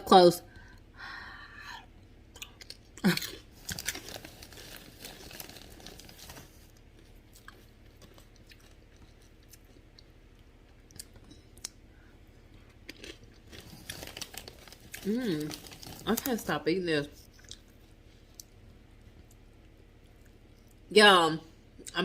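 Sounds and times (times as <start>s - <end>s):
chewing and crunching chips: 1.9s - 20.9s.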